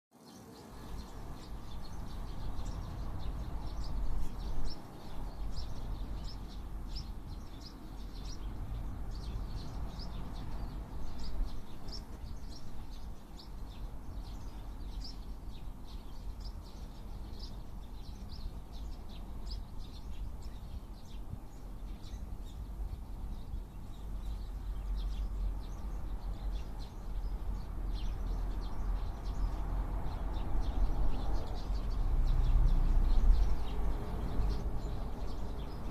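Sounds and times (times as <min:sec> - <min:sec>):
sparrows chirping: 0:00.1 - 0:35.9.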